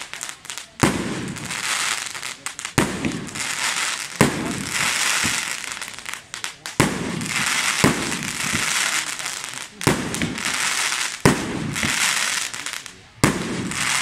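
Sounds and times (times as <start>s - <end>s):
firework crackling: 0.0s - 14.0s
firework shells bursting: 0.0s - 14.0s.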